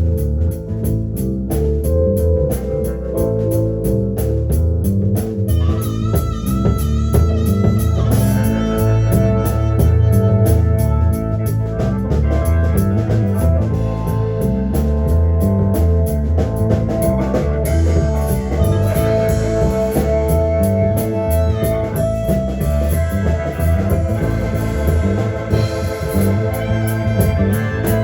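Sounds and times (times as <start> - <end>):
live rock band instrumental: 0.0 - 28.0
held lead guitar note: 5.5 - 28.0.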